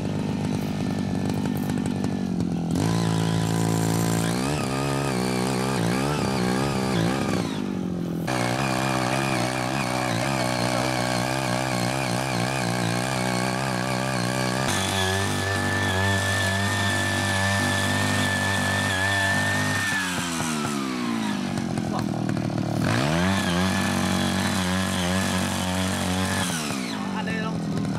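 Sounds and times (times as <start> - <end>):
cultivator engine running: 0.0 - 27.9.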